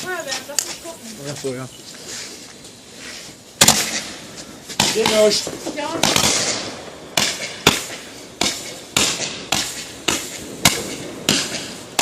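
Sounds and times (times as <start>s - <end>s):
firework bangs with hiss: 2.0s - 12.0s.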